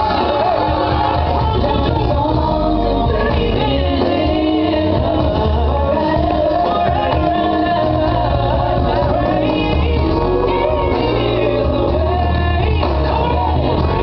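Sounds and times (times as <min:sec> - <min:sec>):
song with heavy bass beat: 0:00.0 - 0:14.0.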